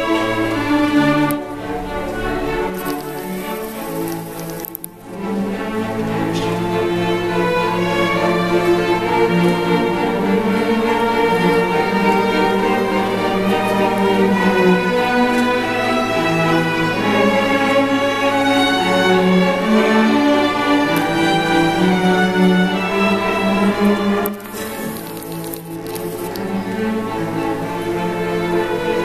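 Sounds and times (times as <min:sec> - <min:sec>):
string orchestra playing: 0:00.0 - 0:29.0.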